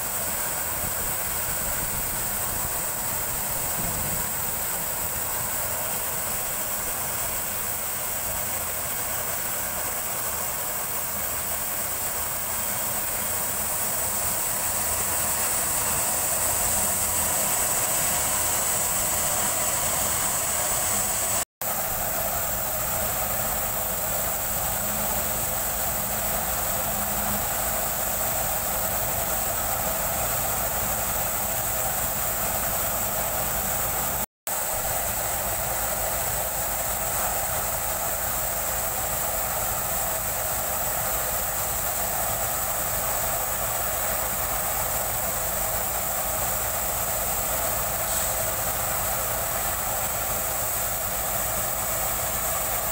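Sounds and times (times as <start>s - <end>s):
diesel engines running: 0.0s - 52.9s
high hiss: 0.0s - 52.9s.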